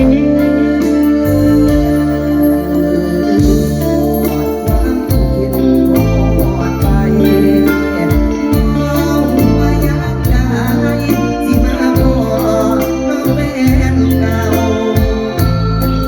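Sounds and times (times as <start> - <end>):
heavy bass line: 0.0 - 16.0
live band music: 0.0 - 16.0
steady drum beat: 0.0 - 16.0
wavering melody line: 0.0 - 16.0.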